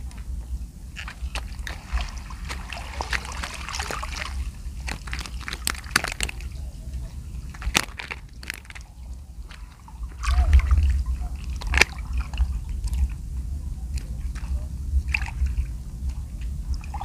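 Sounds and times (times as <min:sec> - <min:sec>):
steady low rumble: 0:00.0 - 0:17.0
water sloshing and splashing: 0:00.0 - 0:17.0.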